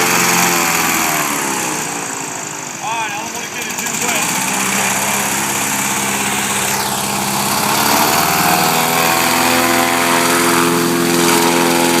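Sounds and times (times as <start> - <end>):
small airboat engine running: 0.0 - 12.0.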